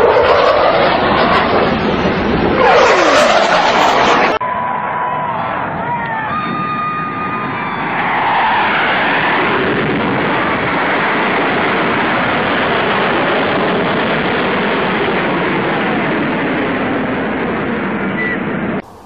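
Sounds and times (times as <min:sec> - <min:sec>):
fighter jet passing: 0:00.0 - 0:19.0.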